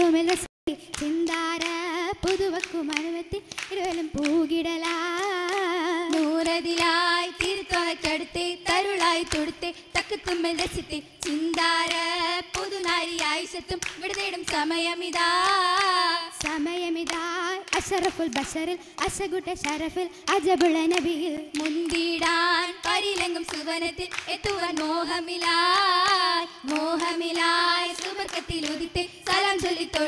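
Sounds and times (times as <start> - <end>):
rhythmic hand clapping: 0.0 - 30.0
women singing: 0.0 - 30.0.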